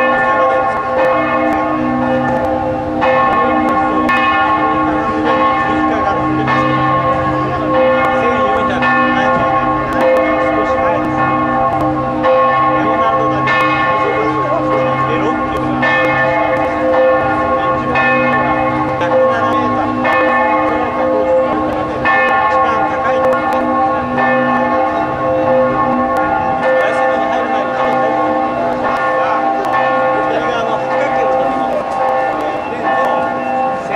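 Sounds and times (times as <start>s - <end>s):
church bells pealing: 0.0s - 33.9s.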